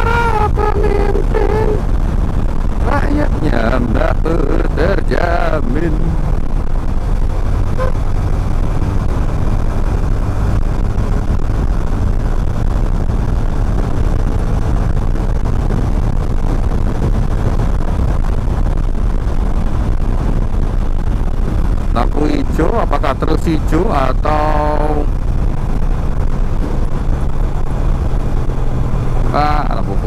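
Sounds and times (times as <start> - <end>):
motorcycle engine drone: 0.0 - 30.0
wind and road rush: 0.0 - 30.0.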